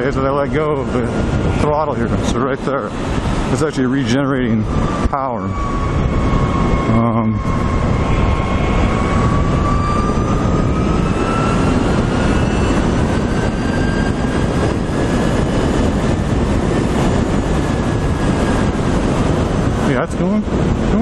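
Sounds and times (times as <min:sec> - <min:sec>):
electric motor whining: 0:00.0 - 0:21.0
wind rush on microphone: 0:00.0 - 0:21.0.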